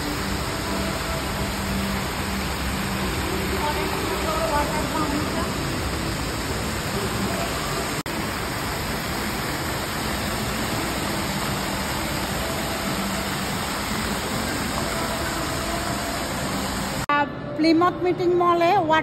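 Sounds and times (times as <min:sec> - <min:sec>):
fountain water splashing: 0:00.0 - 0:17.1.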